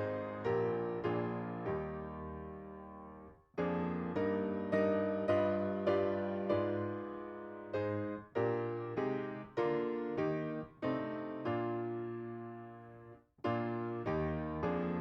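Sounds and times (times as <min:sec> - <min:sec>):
piano playing hymn chords: 0:00.0 - 0:15.0.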